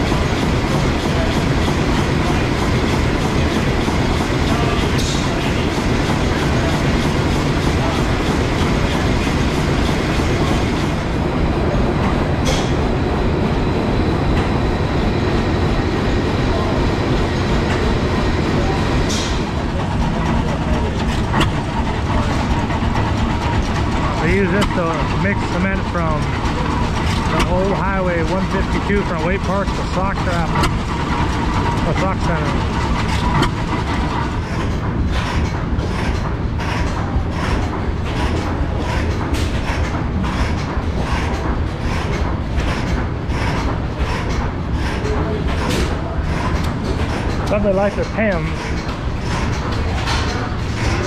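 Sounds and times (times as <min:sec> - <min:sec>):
stationary engines running: 0:00.0 - 0:51.0.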